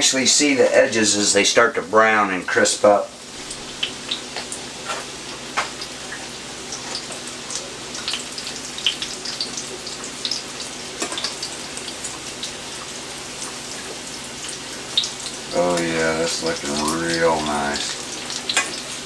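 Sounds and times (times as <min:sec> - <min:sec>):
fish frying in hot oil: 0:00.2 - 0:19.0.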